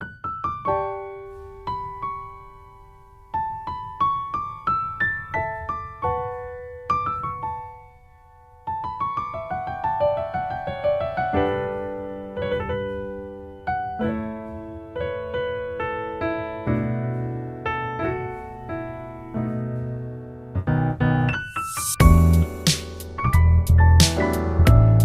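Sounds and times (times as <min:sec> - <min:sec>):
slow piano melody: 0:00.0 - 0:25.0.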